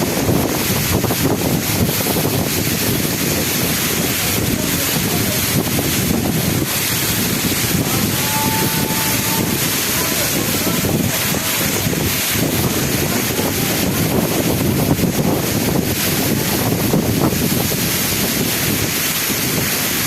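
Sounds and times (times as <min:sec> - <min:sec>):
rainstorm: 0:00.0 - 0:20.0
wind buffeting microphone: 0:00.0 - 0:20.0.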